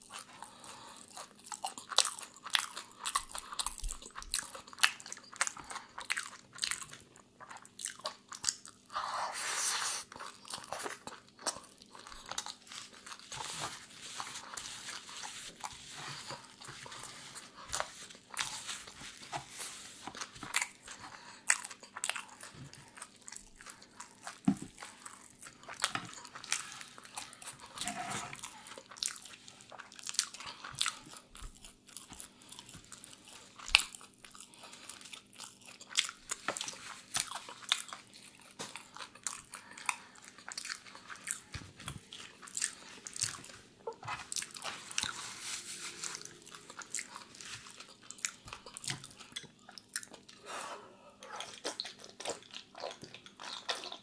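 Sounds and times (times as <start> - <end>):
chewing food: 0.0 - 54.0.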